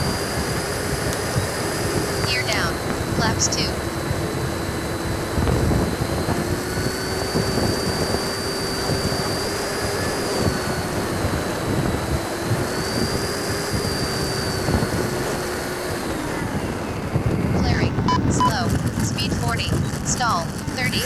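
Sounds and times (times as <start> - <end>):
electric ducted fan whining: 0.0 - 21.0
wind buffeting microphone: 0.0 - 21.0.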